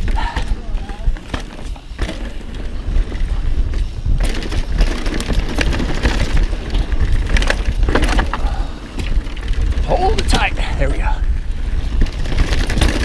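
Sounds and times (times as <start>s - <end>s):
bike clattering over rocks: 0.0s - 10.5s, 11.9s - 13.0s
wind and ground rumble: 0.0s - 13.0s.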